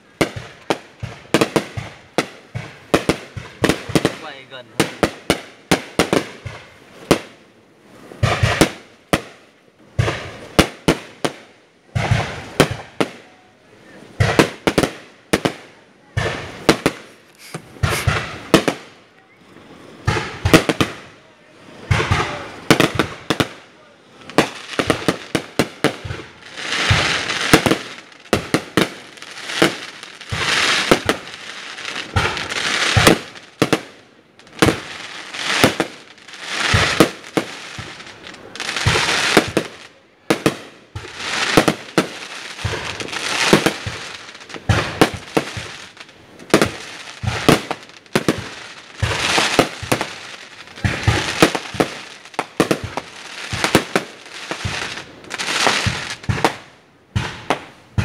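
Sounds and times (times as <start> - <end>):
fireworks bursting with sharp bangs: 0.0 - 58.0
fireworks hissing: 0.0 - 58.0.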